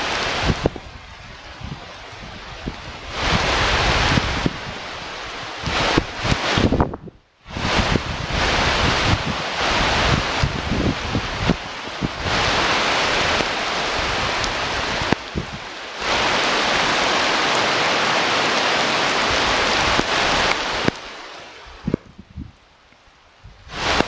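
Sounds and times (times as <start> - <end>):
loud steady weather hiss: 0.0 - 24.0.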